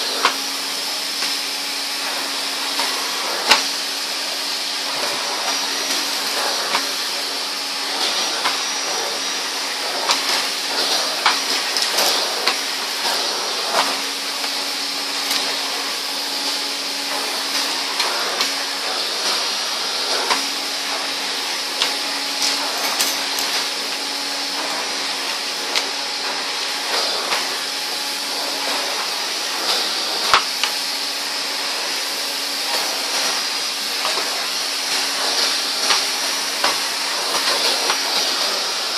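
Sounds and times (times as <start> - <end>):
vacuum cleaner humming: 0.0 - 38.9.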